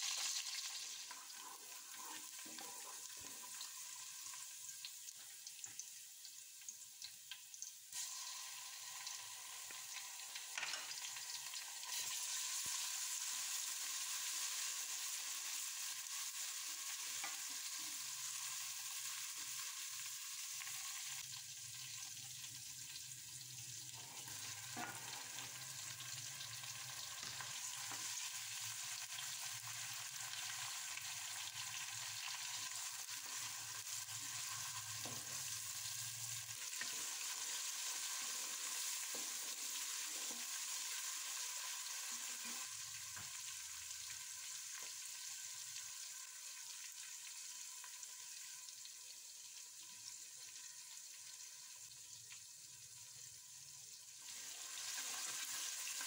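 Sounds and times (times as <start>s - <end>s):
onions and tomatoes frying: 0.0s - 56.0s.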